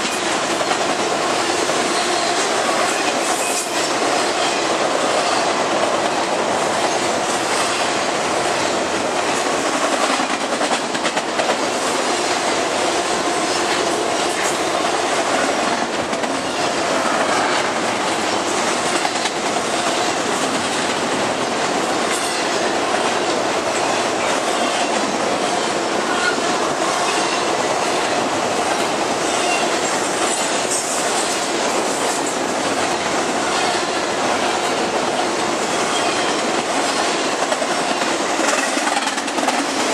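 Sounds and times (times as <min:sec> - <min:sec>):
train wheels rolling on rail: 0:00.0 - 0:39.9.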